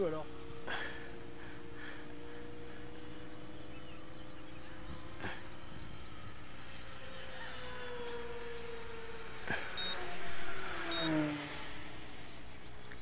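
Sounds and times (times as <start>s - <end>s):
model airplane motors whining: 0.0s - 13.0s.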